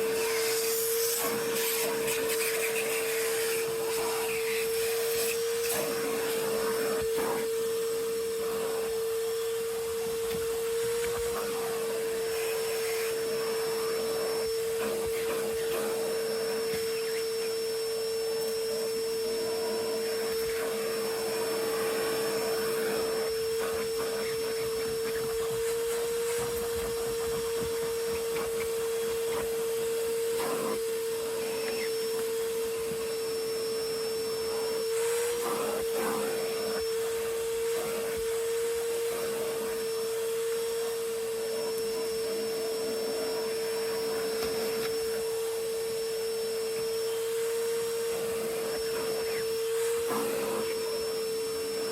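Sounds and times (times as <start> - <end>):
vacuum cleaner motor whine: 0.0 - 51.9.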